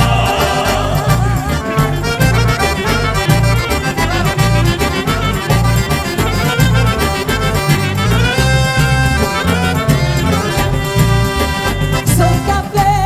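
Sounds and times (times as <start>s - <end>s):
pounding bass line: 0.0s - 12.3s
upbeat accordion music: 0.0s - 13.0s.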